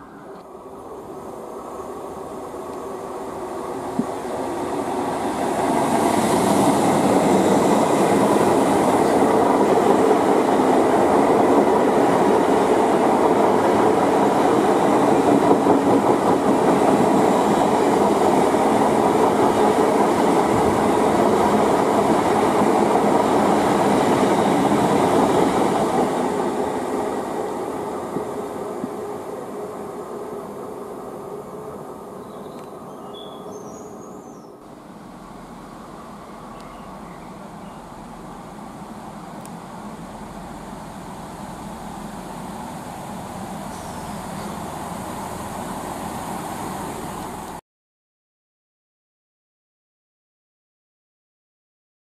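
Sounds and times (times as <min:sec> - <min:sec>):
train passing: 0:00.0 - 0:47.6.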